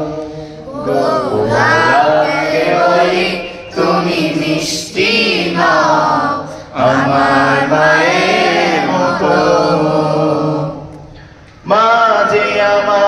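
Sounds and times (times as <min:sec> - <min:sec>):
boys singing along: 0:00.0 - 0:11.2.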